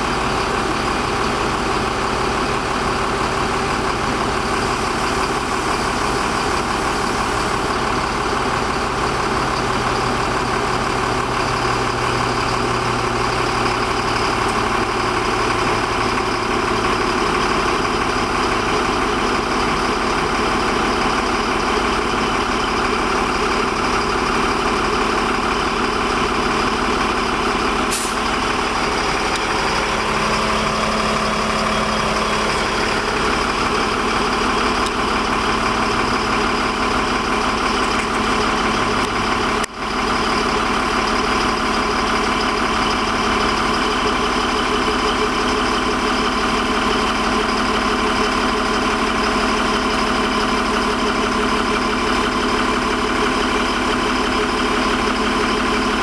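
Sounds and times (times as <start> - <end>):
crane engine running: 0.0 - 56.0.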